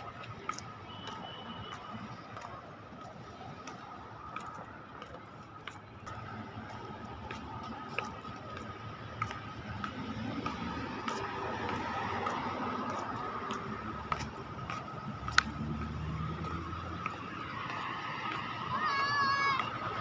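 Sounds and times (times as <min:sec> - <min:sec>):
hum of car traffic: 0:00.0 - 0:20.0.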